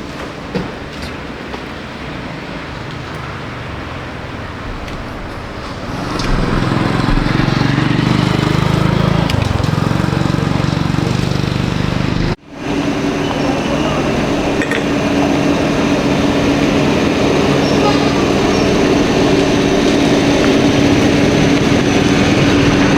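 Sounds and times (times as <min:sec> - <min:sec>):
motor engine running: 0:03.6 - 0:22.9.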